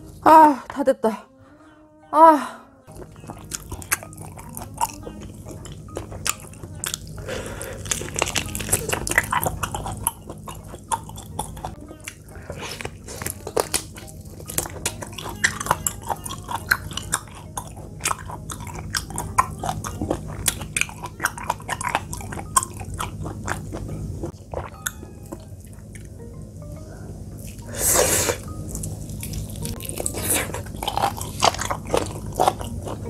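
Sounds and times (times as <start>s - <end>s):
steady low hum: 0.0s - 33.0s
chewing and biting: 2.9s - 26.2s, 27.4s - 33.0s.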